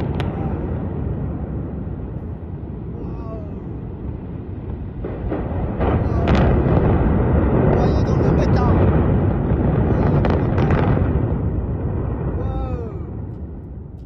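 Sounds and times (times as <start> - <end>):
sharp explosive bangs: 0.0 - 3.0, 3.6 - 14.0
buildings collapsing rumble: 0.0 - 14.0.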